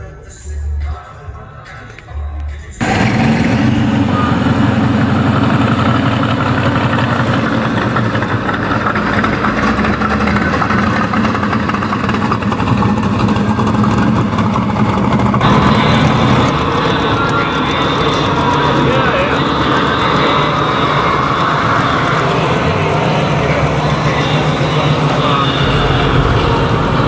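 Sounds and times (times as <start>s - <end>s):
car engine idling: 0.4s - 27.0s.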